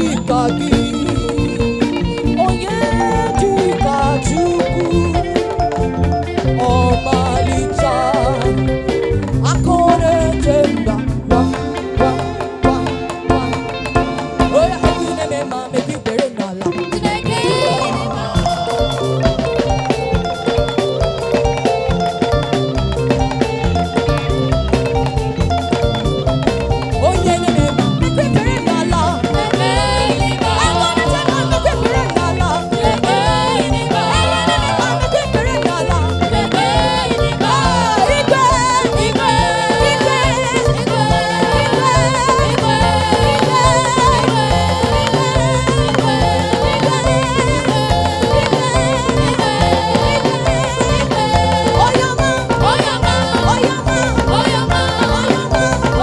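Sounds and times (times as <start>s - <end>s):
drums with steady beat: 0.0s - 56.0s
voices singing gospel: 0.0s - 56.0s.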